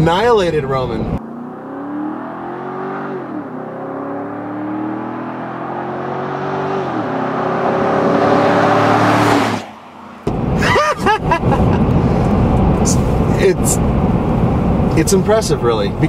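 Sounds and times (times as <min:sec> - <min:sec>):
truck engine accelerating: 0:00.9 - 0:16.0.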